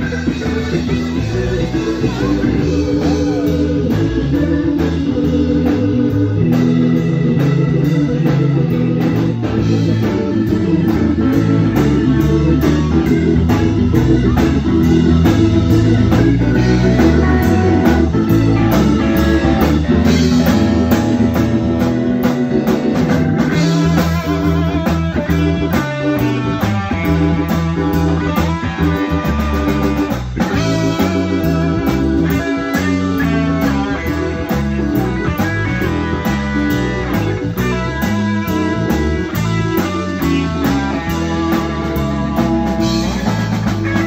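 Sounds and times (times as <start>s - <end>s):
live blues band playing: 0.0s - 44.0s.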